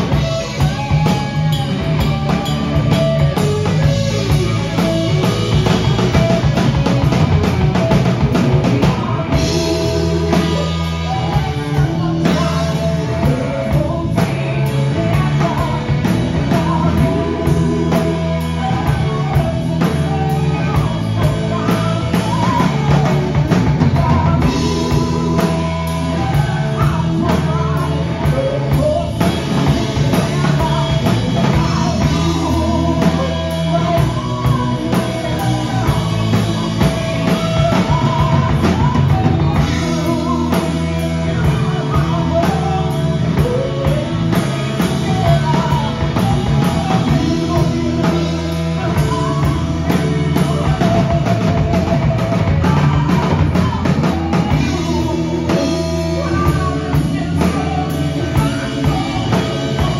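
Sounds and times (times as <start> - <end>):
bass guitar: 0.0 - 59.9
drum kit: 0.0 - 59.9
electric guitar: 0.0 - 59.9
keyboard: 0.0 - 59.9
woman singing: 8.0 - 59.9.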